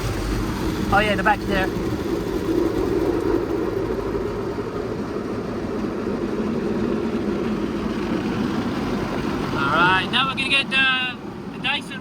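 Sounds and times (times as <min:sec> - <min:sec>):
car wash rumble: 0:00.0 - 0:12.0.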